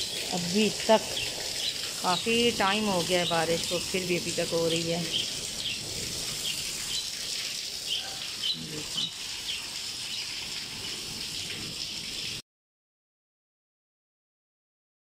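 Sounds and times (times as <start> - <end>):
heavy rain falling: 0.0 - 12.4.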